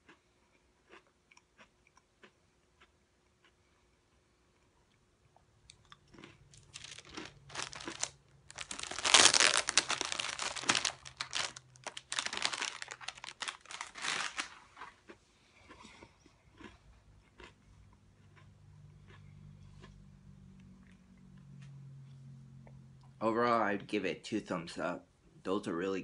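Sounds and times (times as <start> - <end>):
crunchy chewing of cookie: 0.0 - 22.8.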